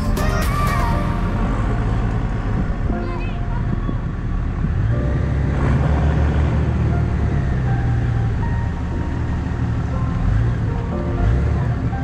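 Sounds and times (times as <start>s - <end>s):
faint background music: 0.0s - 12.0s
vehicle engine low rumble: 0.0s - 12.0s.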